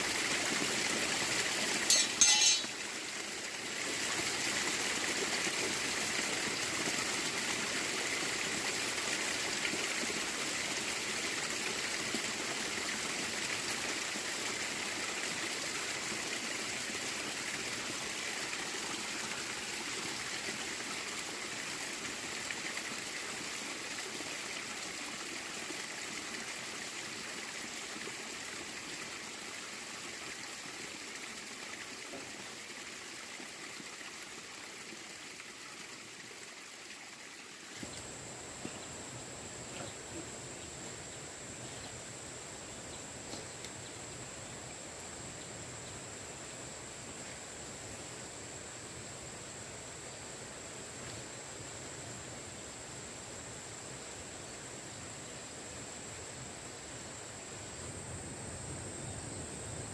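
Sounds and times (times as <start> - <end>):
running water flowing: 0.0 - 52.9.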